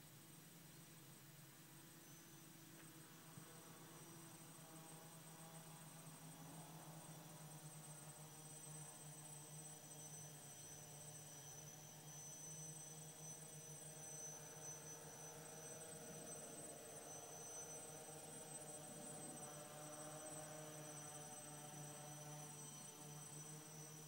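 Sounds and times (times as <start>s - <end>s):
distant quadcopter motors buzzing: 0.0s - 24.0s.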